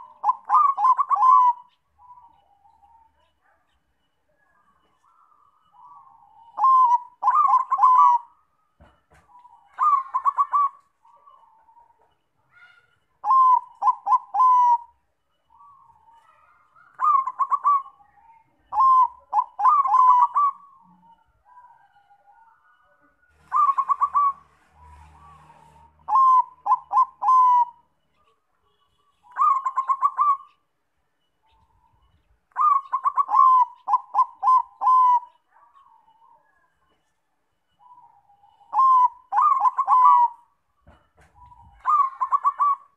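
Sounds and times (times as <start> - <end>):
dove cooing: 0.0 - 3.6, 4.7 - 28.3, 29.2 - 30.6, 31.5 - 37.0, 37.8 - 42.9.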